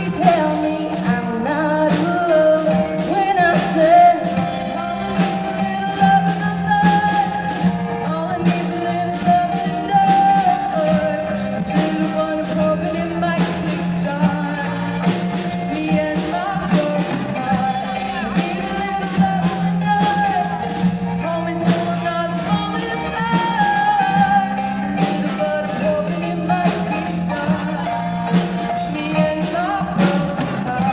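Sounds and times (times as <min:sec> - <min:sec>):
person singing: 0:00.0 - 0:30.9
rock band playing: 0:00.0 - 0:30.9.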